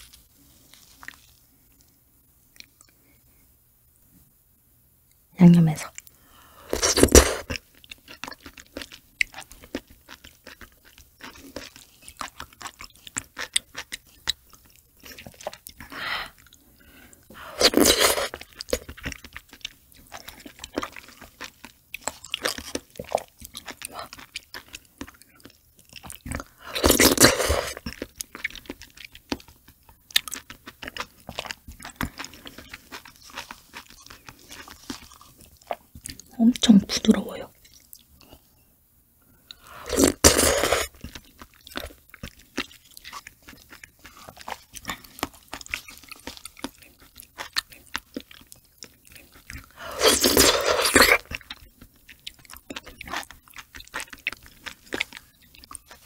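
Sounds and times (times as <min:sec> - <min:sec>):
wet chewing and smacking: 0:06.8 - 0:36.7, 0:37.5 - 0:38.5, 0:39.4 - 0:56.0.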